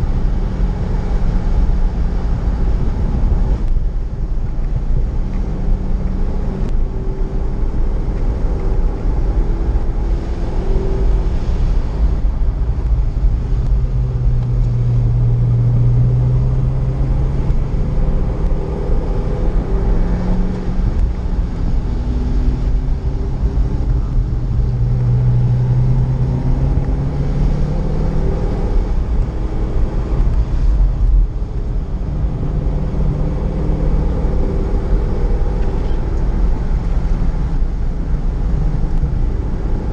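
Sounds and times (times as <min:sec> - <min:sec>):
car engine under load: 0:00.0 - 0:39.9.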